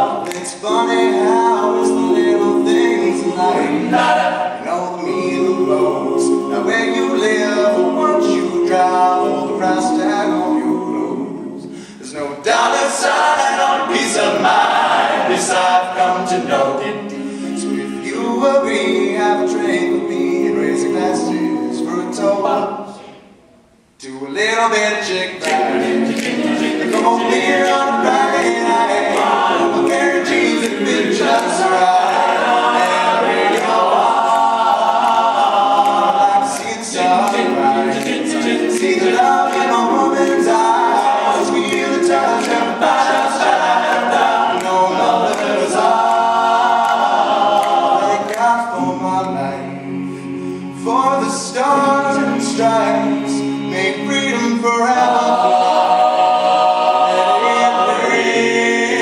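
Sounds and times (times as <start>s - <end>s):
male group singing backing: 0.0s - 23.3s, 24.6s - 59.0s.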